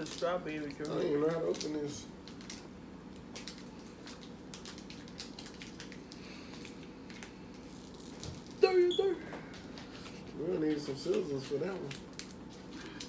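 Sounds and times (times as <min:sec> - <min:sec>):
plastic wrapper crinkling: 0:00.0 - 0:08.8, 0:09.6 - 0:13.0
low room hum: 0:00.0 - 0:13.0.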